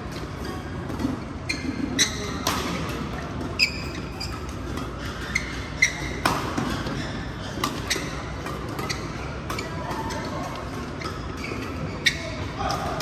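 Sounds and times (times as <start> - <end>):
shoes squeaking on court: 0.0 - 13.0.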